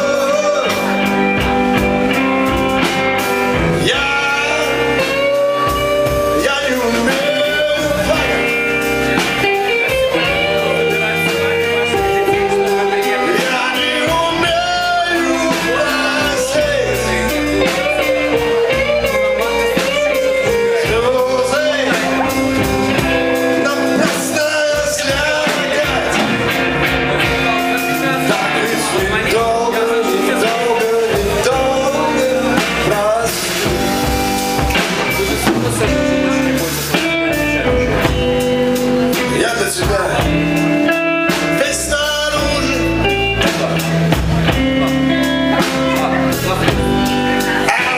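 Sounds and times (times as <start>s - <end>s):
blues-rock band playing live: 0.0s - 47.9s
electric guitars: 0.0s - 47.9s.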